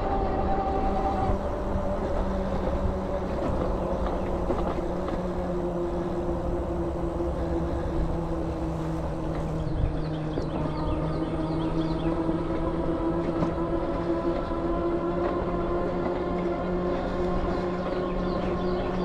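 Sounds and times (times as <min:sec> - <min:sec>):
tyres and motor humming: 0:00.0 - 0:19.0
wind on microphone: 0:00.0 - 0:19.0.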